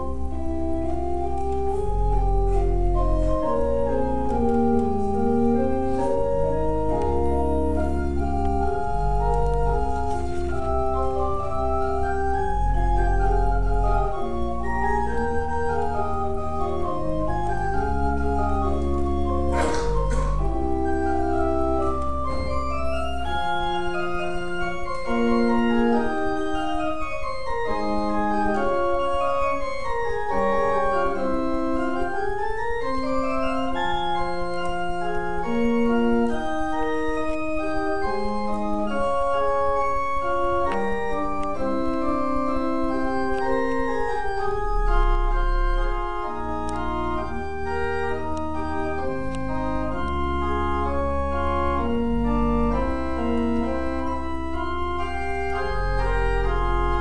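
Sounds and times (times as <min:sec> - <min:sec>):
deep organ bass pedal notes: 0:00.0 - 0:57.0
pipe organ playing: 0:00.0 - 0:57.0.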